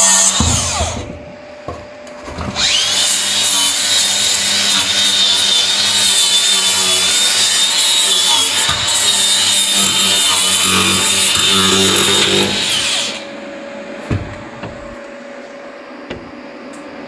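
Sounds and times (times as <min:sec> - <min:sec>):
angle grinder whine: 0:00.0 - 0:01.5, 0:02.3 - 0:17.0.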